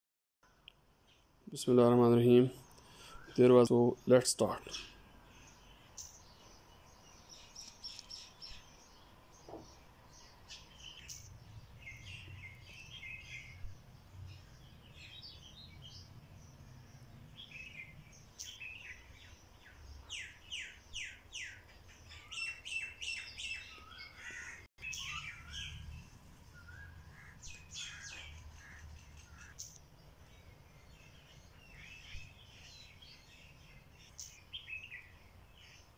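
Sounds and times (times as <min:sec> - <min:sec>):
small birds chirping and twittering: 0:00.4 - 0:35.9.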